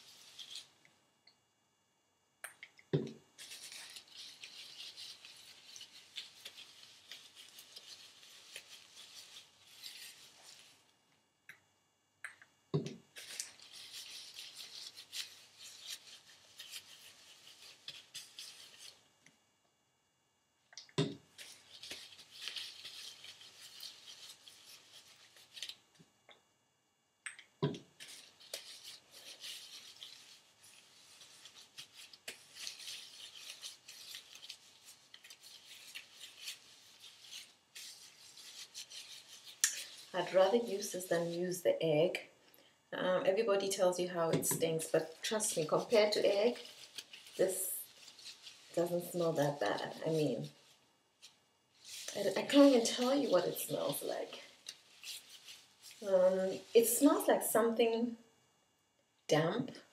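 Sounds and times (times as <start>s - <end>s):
gloved hands rubbing hair: 0.0s - 0.8s, 3.0s - 11.0s, 13.0s - 19.2s, 21.2s - 26.0s, 27.7s - 41.8s, 43.3s - 57.9s.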